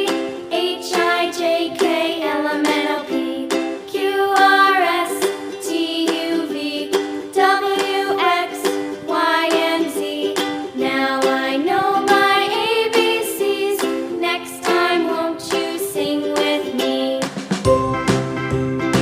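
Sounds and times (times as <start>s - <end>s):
bright ukulele tune: 0.0s - 19.0s
sliding melody line: 0.0s - 19.0s.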